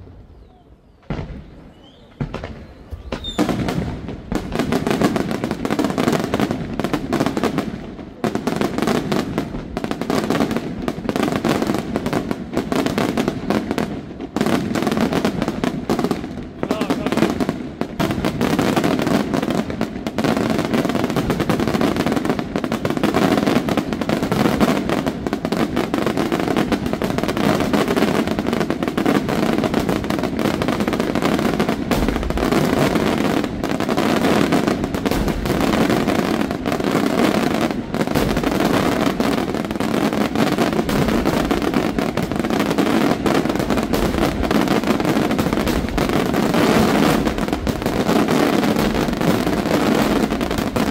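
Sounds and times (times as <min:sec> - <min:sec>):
fireworks bursting and crackling: 0:00.0 - 0:50.9
low firework booms: 0:00.0 - 0:50.9.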